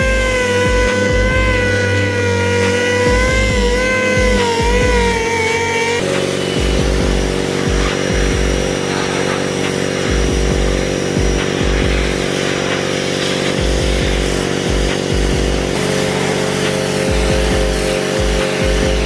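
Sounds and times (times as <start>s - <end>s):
low bass beat: 0.0s - 19.0s
pressure washer jet spraying: 0.0s - 19.0s.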